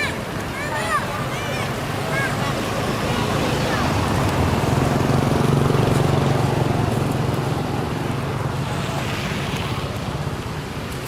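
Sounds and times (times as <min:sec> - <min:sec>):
vehicle engine passing: 0:01.6 - 0:10.8.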